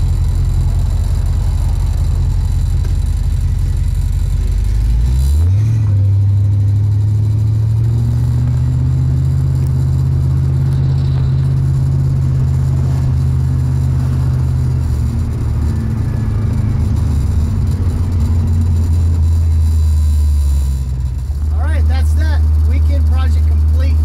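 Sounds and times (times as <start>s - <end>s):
car engine droning while driving: 0.0s - 24.0s.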